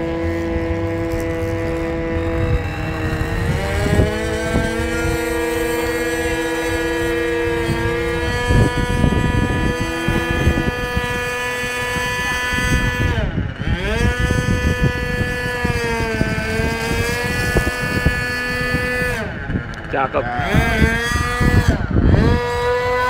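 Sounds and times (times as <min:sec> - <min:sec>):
model airplane engine running: 0:00.0 - 0:23.0
wind buffeting microphone: 0:00.0 - 0:23.0.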